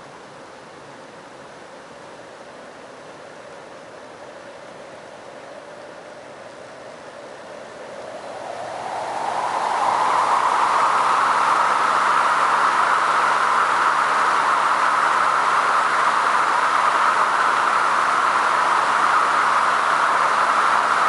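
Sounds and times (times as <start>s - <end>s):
ceiling fans rushing air: 0.0s - 21.0s
faint motor hum: 2.9s - 21.0s.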